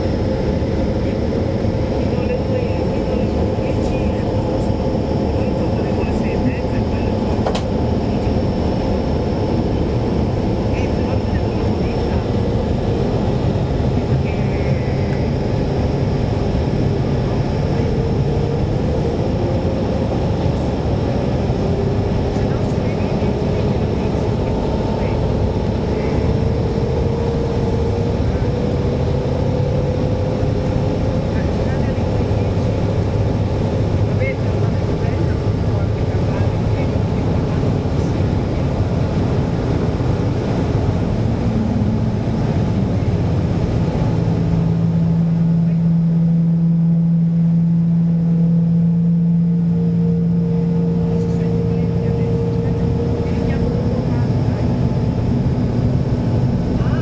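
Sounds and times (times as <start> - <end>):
engines droning: 0.0 - 57.0
steady low-pitched hum: 0.0 - 57.0.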